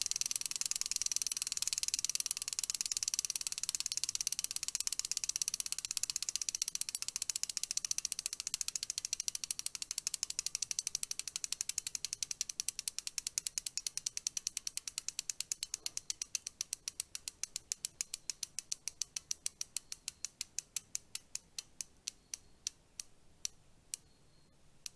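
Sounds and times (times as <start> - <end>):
bicycle freewheel clicking: 0.0 - 21.9.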